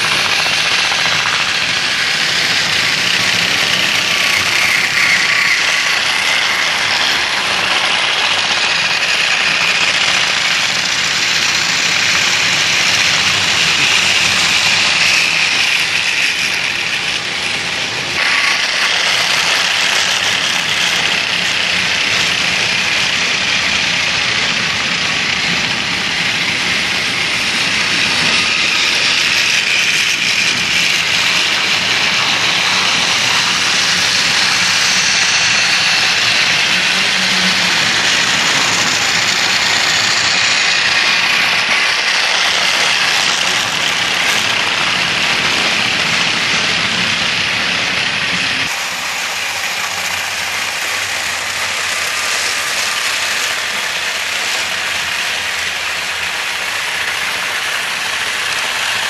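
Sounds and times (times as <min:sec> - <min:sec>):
toy train motors whirring: 0:00.0 - 0:59.0
wheels rattling over plastic track: 0:00.0 - 0:59.0.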